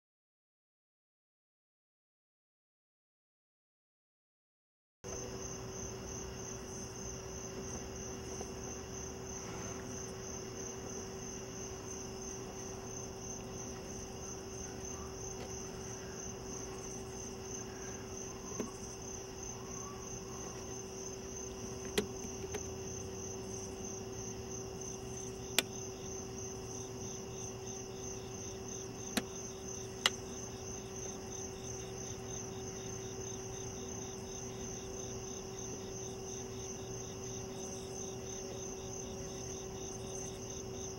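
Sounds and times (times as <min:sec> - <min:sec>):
crickets chirping: 0:05.1 - 0:40.9
lower-pitched insect trill: 0:05.1 - 0:40.9.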